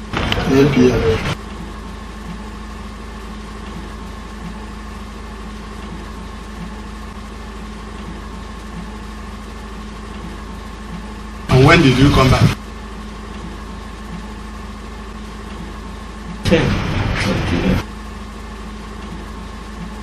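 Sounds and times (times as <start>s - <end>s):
steady mechanical hum with whine: 0.0s - 20.0s.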